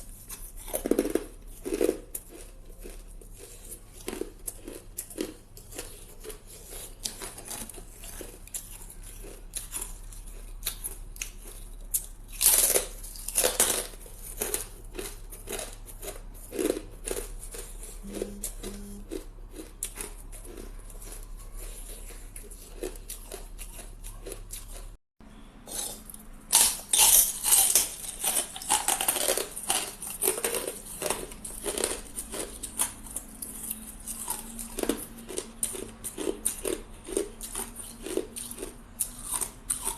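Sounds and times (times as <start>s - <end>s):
ice being chewed: 0.0s - 25.0s, 25.6s - 39.9s.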